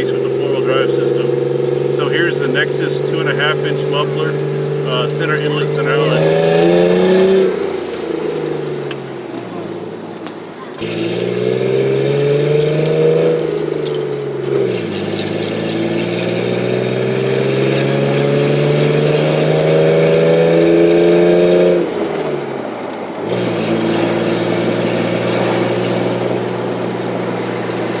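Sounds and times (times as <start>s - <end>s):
car engine exhaust note: 0.0s - 28.0s.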